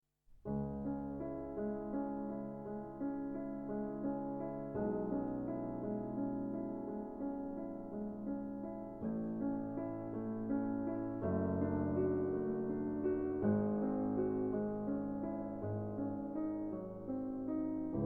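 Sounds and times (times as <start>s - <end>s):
gentle piano music: 0.4s - 18.0s.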